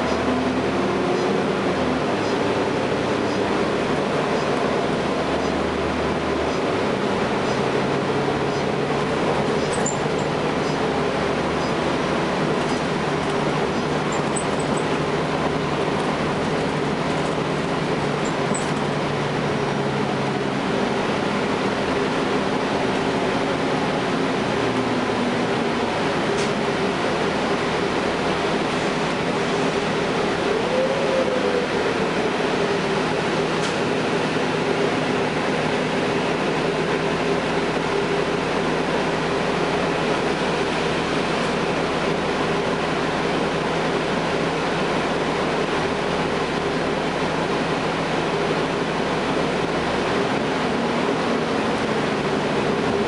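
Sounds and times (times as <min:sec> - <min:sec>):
bus diesel engine running: 0:00.0 - 0:53.0
road noise: 0:00.0 - 0:53.0.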